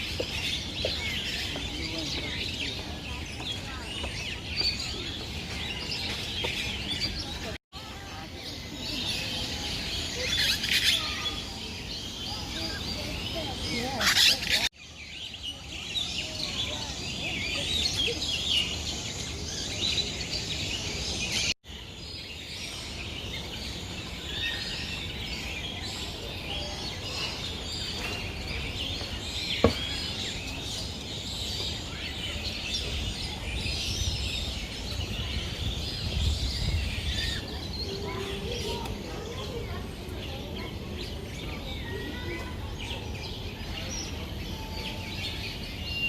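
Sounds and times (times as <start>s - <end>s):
birds chirping and twittering: 0.0s - 46.0s.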